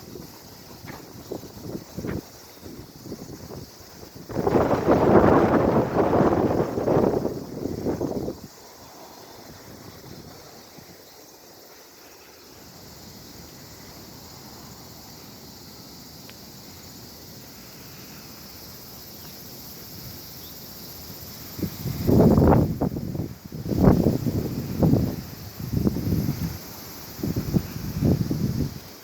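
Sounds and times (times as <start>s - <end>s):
faint wind hiss: 0.0s - 29.0s
high-pitched insect chorus: 0.0s - 29.0s.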